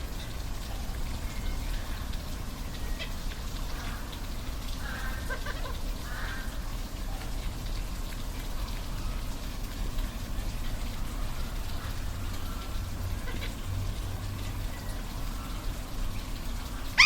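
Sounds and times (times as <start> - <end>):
waterfall rushing and splashing: 0.0 - 17.0.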